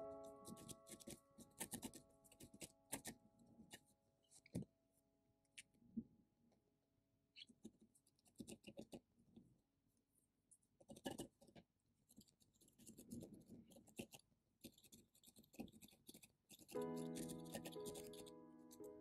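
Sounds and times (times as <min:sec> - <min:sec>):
felting needle poking wool: 0:00.0 - 0:04.8, 0:07.3 - 0:19.0.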